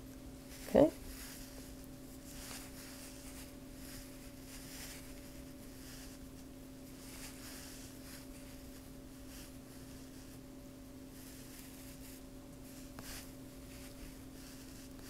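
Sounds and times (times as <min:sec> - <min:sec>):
low electrical hum: 0:00.0 - 0:15.0
yarn rustling with crochet hook: 0:00.4 - 0:10.4, 0:11.1 - 0:15.0.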